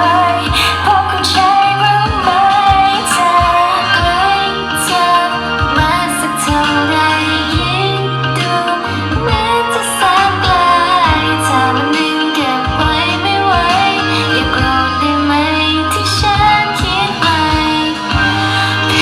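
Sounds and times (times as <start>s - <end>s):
bass line: 0.0s - 19.0s
woman singing pop song: 0.0s - 19.0s.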